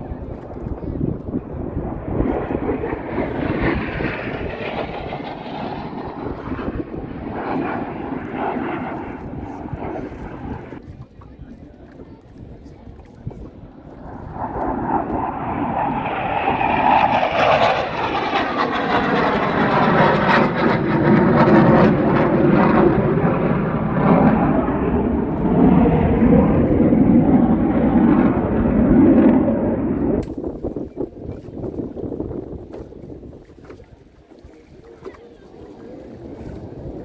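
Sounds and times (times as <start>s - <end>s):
aircraft engine rumble passing: 0.0s - 37.0s.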